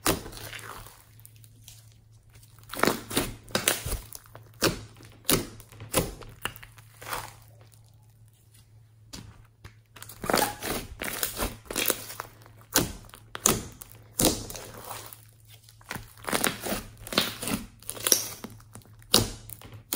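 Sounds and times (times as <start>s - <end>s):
slime squishing and crackling: 0.0s - 19.9s.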